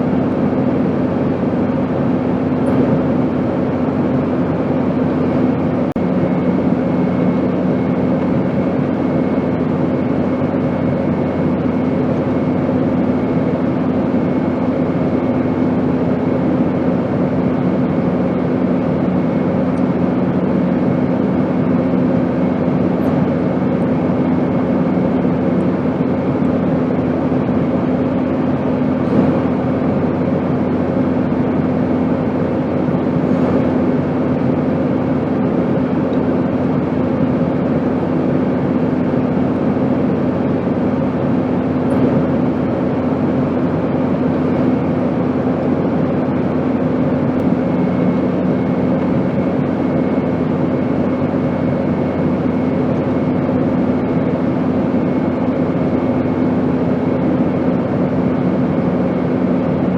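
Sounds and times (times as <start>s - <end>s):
airplane rumble: 0.0s - 59.9s.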